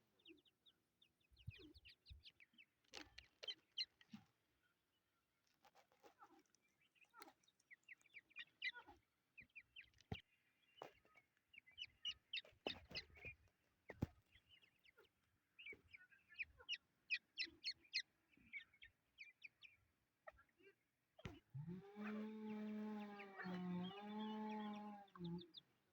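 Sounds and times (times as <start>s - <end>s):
chicks peeping: 1.3s - 4.2s, 5.6s - 20.5s, 21.2s - 25.7s.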